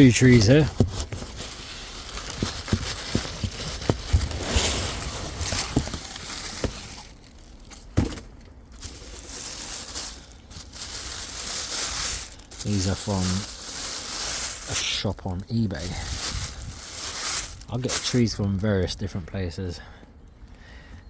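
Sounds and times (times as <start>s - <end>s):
packaging crinkling: 0.0s - 18.6s.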